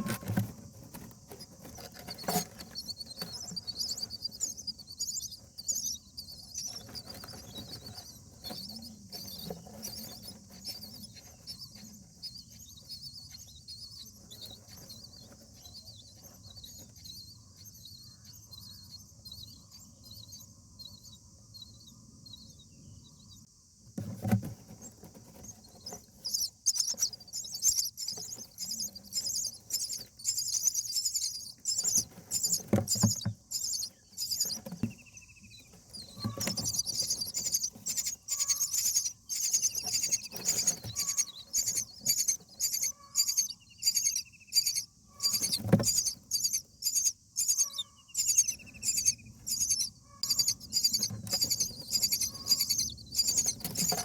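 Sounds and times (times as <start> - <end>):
scratching and rustling in nest: 0.0 - 18.9, 23.9 - 54.0
nestlings cheeping: 0.0 - 21.0, 24.8 - 54.0.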